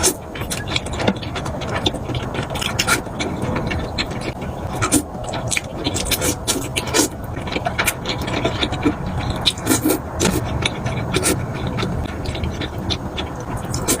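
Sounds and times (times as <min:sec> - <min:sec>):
person chewing with mouth smacks: 0:00.0 - 0:14.0.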